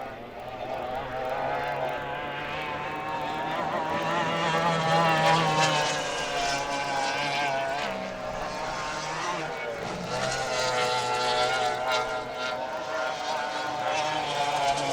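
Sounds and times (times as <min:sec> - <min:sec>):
racing boat engines passing: 0:00.0 - 0:14.9.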